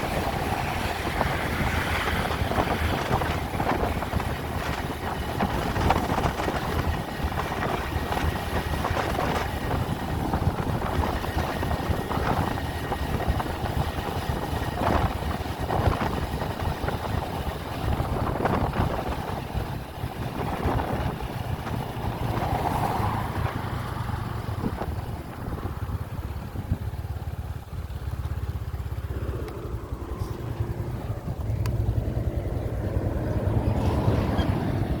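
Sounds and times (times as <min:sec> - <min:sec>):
wind noise on microphone: 0:00.0 - 0:27.2, 0:29.7 - 0:35.0
road vehicle rumbling: 0:00.0 - 0:35.0.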